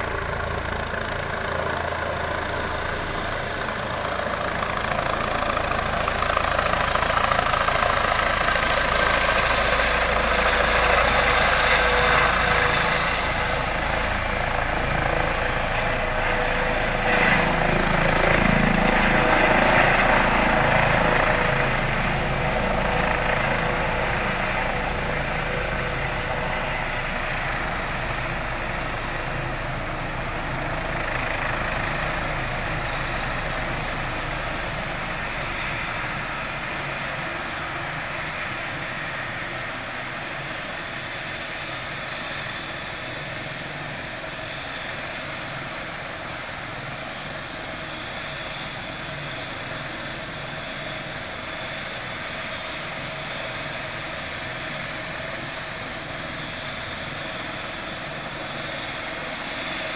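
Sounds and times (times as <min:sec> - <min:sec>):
helicopter rotor noise: 0:00.0 - 0:59.9
helicopter turbine whine: 0:00.0 - 0:59.9.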